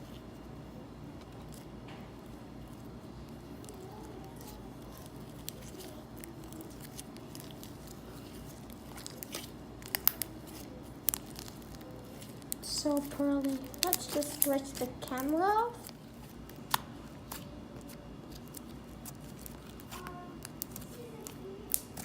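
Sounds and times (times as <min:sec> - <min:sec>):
low background hum: 0:00.0 - 0:22.0
slime squishing: 0:00.0 - 0:22.0.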